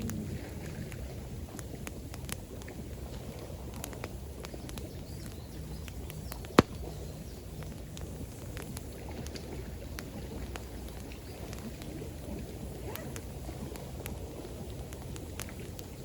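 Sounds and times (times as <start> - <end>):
campfire crackling and popping: 0.0 - 16.0
flowing water: 0.0 - 16.0.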